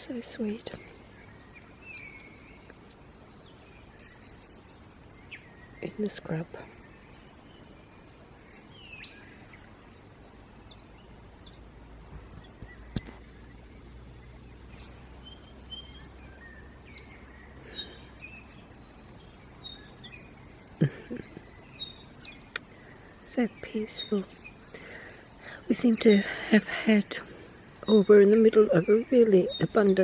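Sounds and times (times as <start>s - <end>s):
small birds chirping: 0.0s - 30.0s
steady background hiss: 0.0s - 30.0s.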